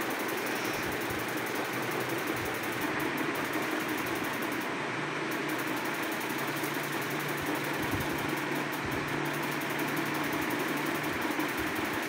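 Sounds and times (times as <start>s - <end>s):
machine hum and whir: 0.0s - 12.0s.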